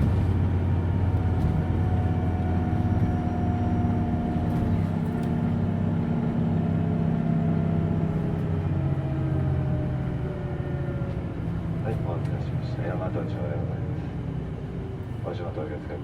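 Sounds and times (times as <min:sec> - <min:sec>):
bus drivetrain running: 0:00.0 - 0:16.0
road rumble: 0:00.0 - 0:16.0.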